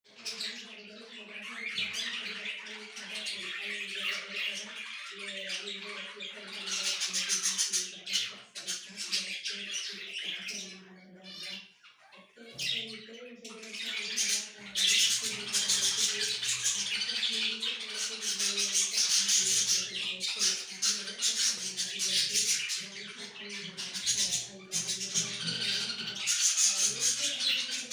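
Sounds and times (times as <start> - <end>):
small birds chattering: 0.1 - 27.9.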